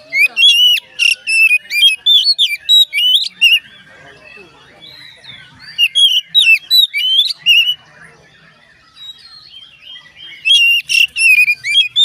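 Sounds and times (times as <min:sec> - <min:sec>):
magpie-robin singing: 0:00.0 - 0:12.0.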